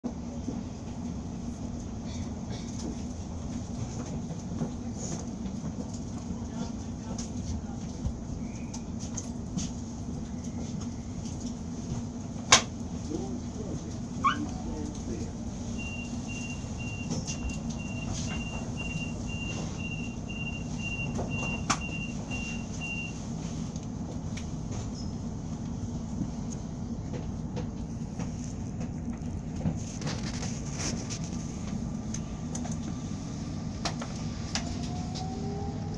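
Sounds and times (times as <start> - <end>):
train carriage hum and rumble: 0.0 - 35.9.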